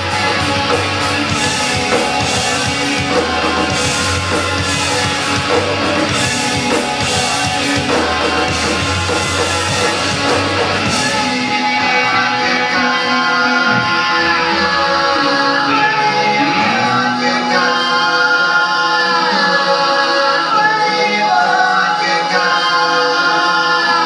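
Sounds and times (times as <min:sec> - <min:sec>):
guitar ringing: 0:00.0 - 0:21.2
rock band playing: 0:00.0 - 0:24.0.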